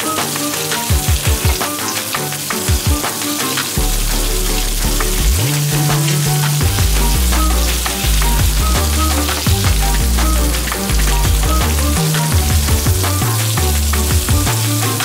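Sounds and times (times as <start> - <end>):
music with drum beat and bass: 0.0 - 15.0.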